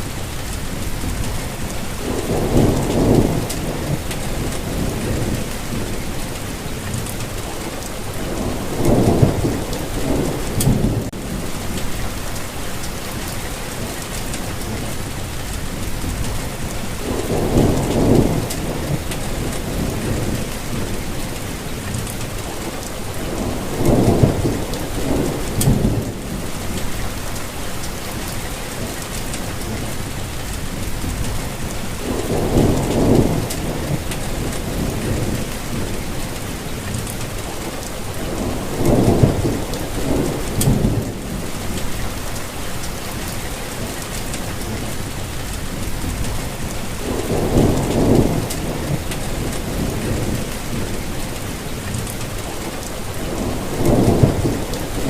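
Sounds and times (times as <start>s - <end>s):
low thunder rumbles: 0.0s - 13.4s, 14.4s - 28.4s, 29.5s - 55.0s
rainfall hiss: 0.0s - 55.0s.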